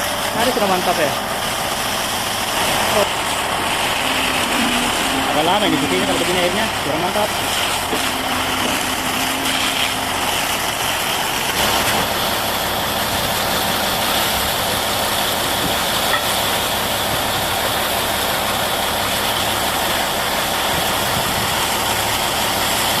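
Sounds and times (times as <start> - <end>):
engine idling: 0.0 - 23.0
water jet spraying: 0.0 - 23.0.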